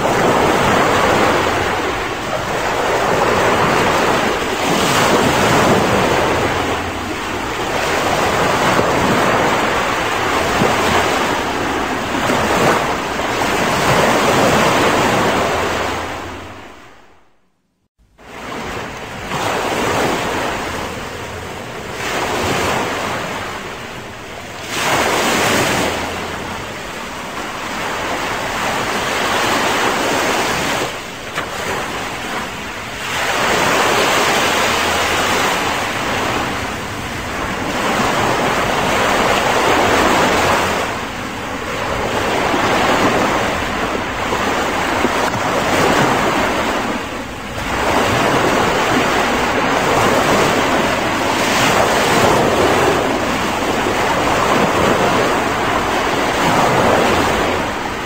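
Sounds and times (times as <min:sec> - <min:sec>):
small waves breaking on beach: 0:00.0 - 0:17.3, 0:18.1 - 0:58.0.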